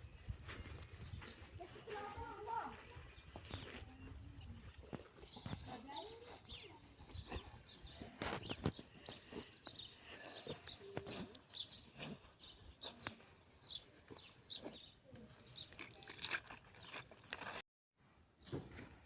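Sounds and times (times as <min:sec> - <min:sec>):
small birds chirping: 0:00.0 - 0:17.1.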